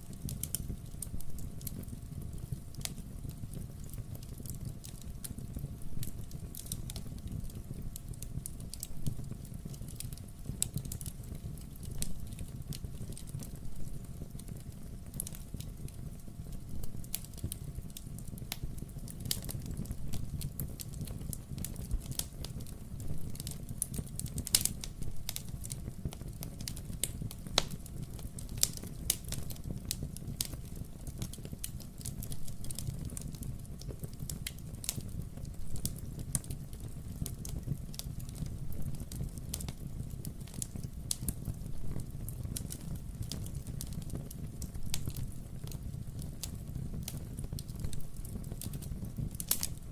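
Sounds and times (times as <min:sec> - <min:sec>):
burning logs crackling and popping: 0:00.0 - 0:49.9
fire low rumble: 0:00.0 - 0:49.9.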